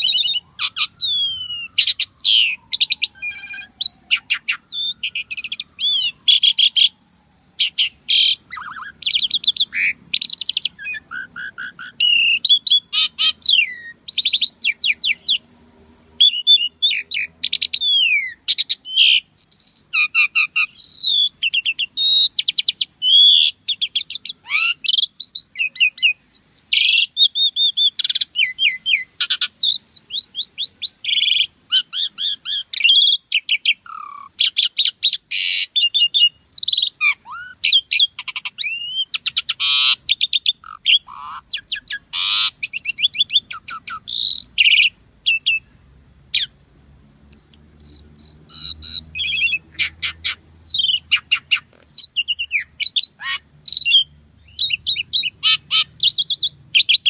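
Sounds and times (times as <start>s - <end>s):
starling singing: 0.0s - 45.7s, 46.3s - 46.6s, 47.3s - 57.0s.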